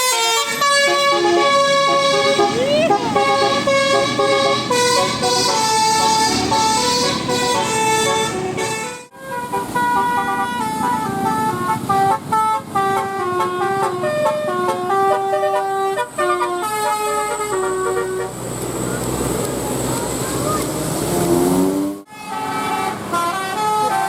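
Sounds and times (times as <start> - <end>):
multi-tone bus horn tune: 0.0 - 19.4, 21.1 - 24.0.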